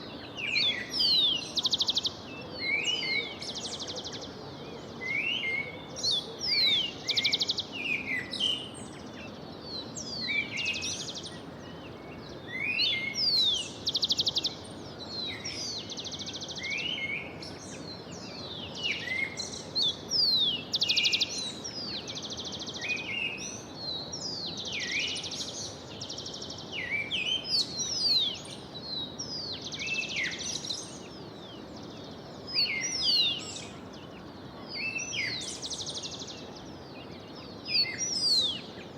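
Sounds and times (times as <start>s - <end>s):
songbirds singing: 0.0s - 38.9s
steady background hiss: 0.0s - 38.9s.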